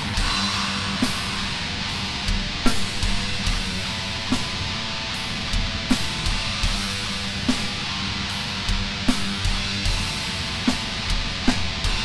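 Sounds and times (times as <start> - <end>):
black metal song: 0.0 - 12.0.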